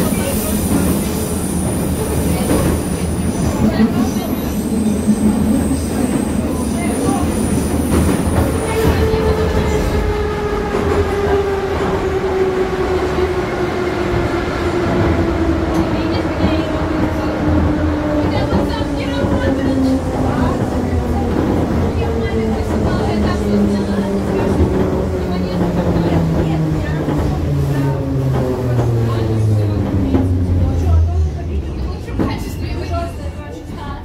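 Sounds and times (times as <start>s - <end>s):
metro train rumbling: 0.0s - 34.0s.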